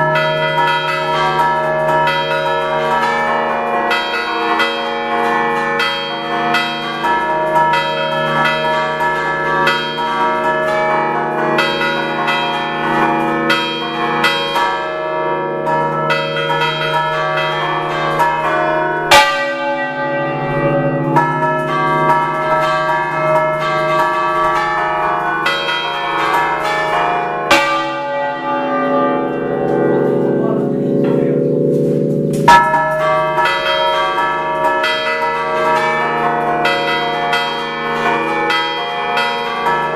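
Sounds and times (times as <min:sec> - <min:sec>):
church bells ringing melody: 0:00.0 - 0:39.9
heavy bell stroke: 0:05.8 - 0:39.4.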